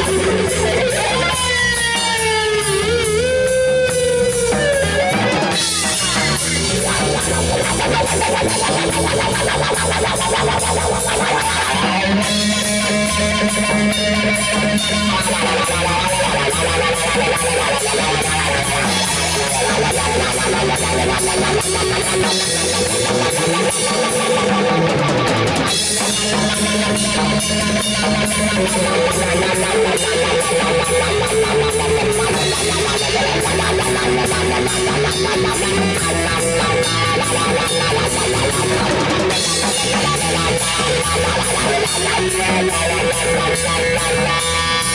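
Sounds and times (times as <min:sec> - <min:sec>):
drum kit beat: 0:00.0 - 0:44.9
electric bass: 0:00.0 - 0:44.9
electric guitar: 0:00.0 - 0:44.9.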